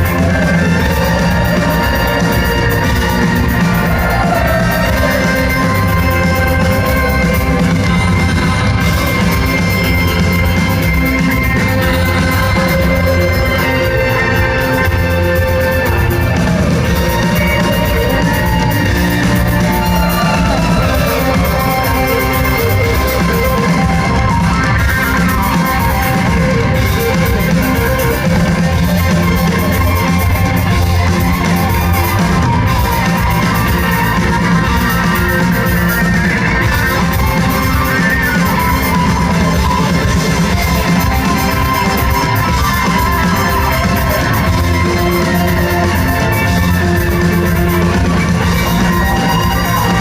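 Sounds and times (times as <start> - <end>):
bass guitar: 0.0 - 50.0
drum kit: 0.0 - 50.0
electric guitars: 0.0 - 50.0
rock band playing live: 0.0 - 50.0.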